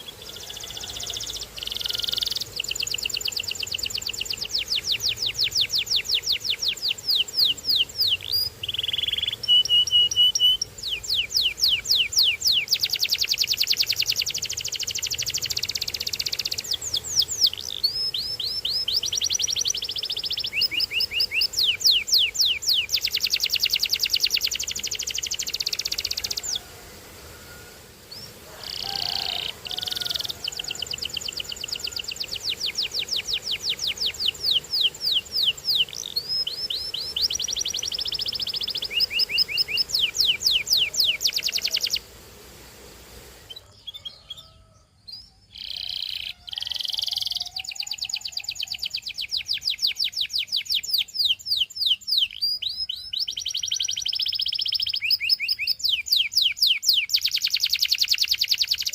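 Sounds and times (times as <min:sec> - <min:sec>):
canary singing trills: 0:00.0 - 0:26.7, 0:27.4 - 0:42.1, 0:43.4 - 0:58.9.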